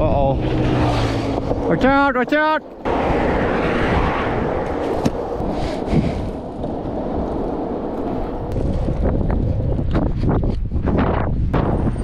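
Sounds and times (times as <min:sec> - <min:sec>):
longboard wheels rolling on asphalt: 0:00.0 - 0:12.0
wind buffeting microphone: 0:00.0 - 0:12.0.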